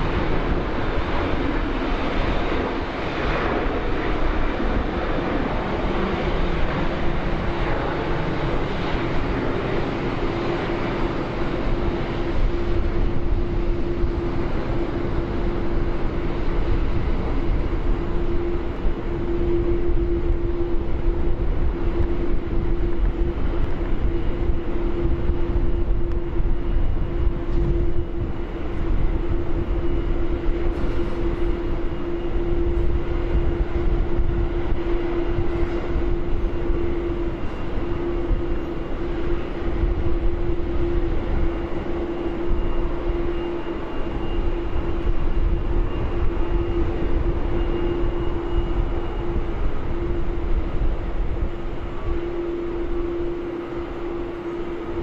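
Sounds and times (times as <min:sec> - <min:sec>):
jet turbine drone: 0:00.0 - 0:55.0.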